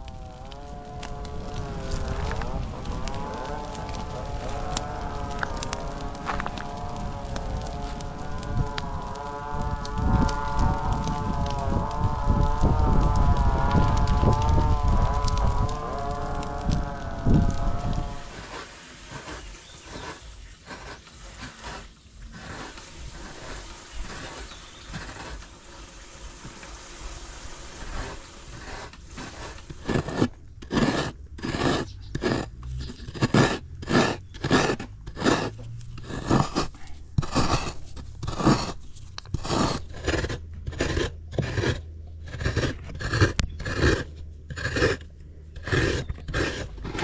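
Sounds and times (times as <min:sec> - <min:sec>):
coconut grating rasps: 0:00.0 - 0:26.7, 0:27.7 - 0:47.0.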